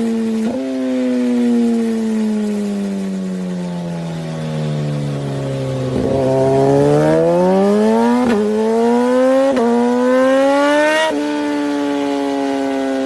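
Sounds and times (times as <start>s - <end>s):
motorcycle accelerating hard: 0.0s - 13.0s.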